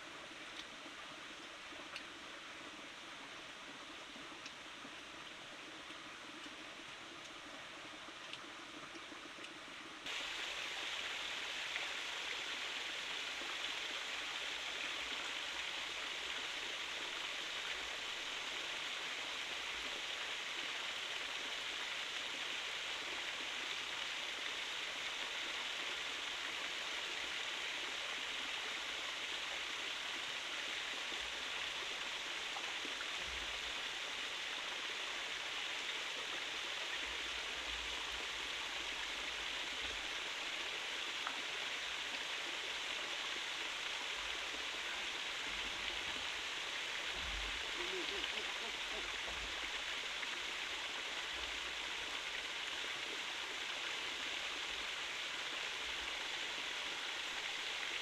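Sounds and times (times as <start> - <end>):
stream running: 0.0 - 58.0.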